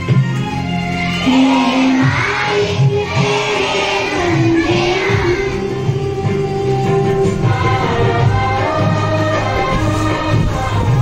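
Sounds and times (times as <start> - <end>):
devotional music with singing: 0.0 - 11.0.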